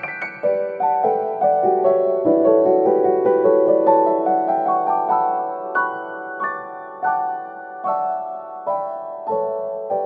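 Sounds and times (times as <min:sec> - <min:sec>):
piano chords ringing: 0:00.0 - 0:10.0.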